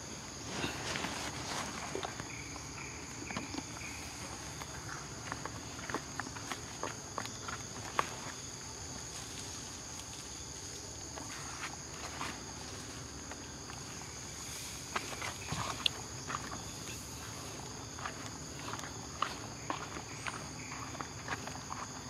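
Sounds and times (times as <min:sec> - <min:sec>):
insects droning: 0:00.0 - 0:22.0
footsteps on forest path: 0:00.2 - 0:22.0.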